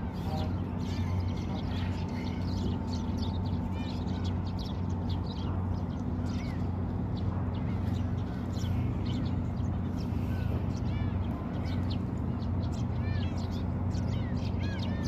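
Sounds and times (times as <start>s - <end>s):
sparrows chirping: 0.0s - 15.0s
steady low hum: 0.0s - 15.0s.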